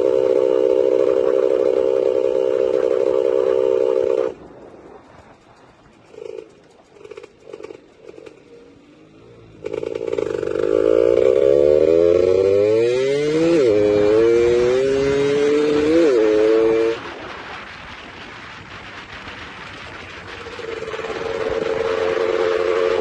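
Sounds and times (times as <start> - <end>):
two-stroke motorcycle engine accelerating: 0.0 - 23.0.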